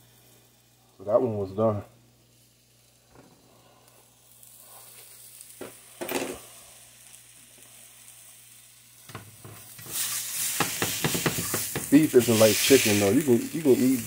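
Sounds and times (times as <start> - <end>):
meat sizzling in a frying pan: 0.0 - 14.0.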